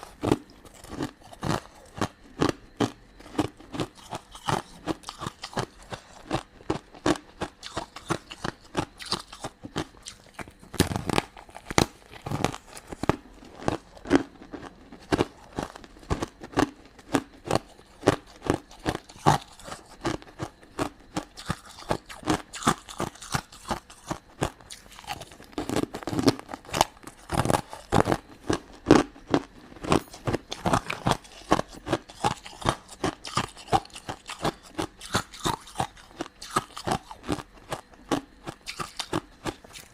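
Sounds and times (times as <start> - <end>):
chewing crunchy candy: 0.0 - 39.9.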